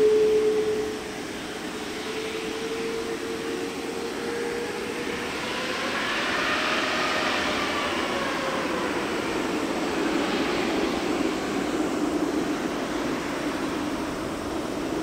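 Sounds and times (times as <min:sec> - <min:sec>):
higher jet whine: 0:00.0 - 0:15.0
jet engines whining: 0:00.0 - 0:15.0.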